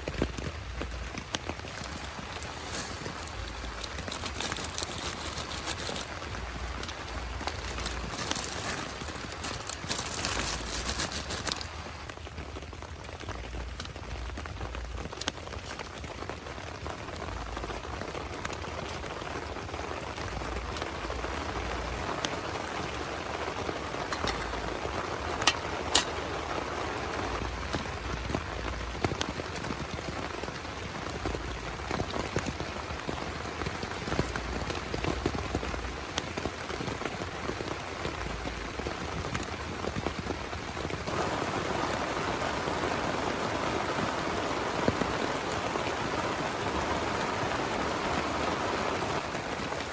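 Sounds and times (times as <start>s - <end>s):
rain pattering: 0.0s - 49.9s
raindrop hits: 0.0s - 49.9s.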